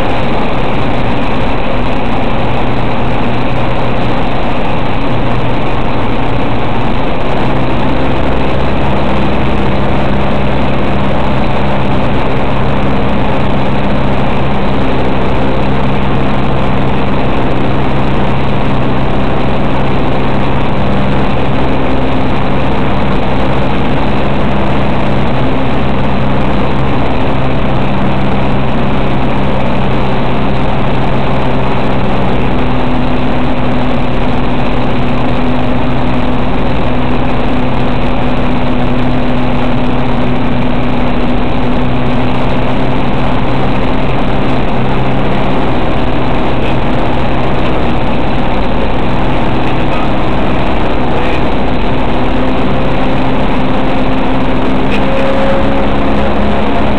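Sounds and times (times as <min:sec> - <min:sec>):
propeller aircraft engine: 0:00.0 - 0:56.9.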